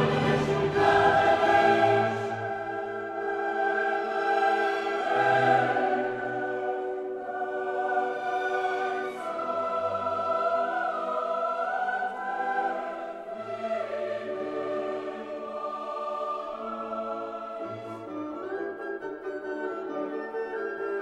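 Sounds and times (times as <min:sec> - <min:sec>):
choir holding slow chords: 0:00.0 - 0:19.9.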